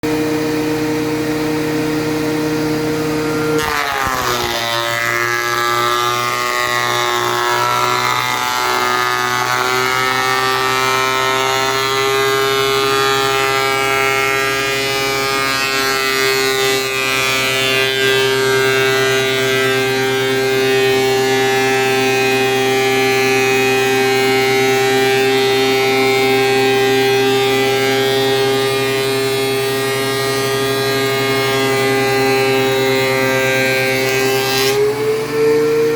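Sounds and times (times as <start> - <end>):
thickness planer whining: 0.0 - 35.9.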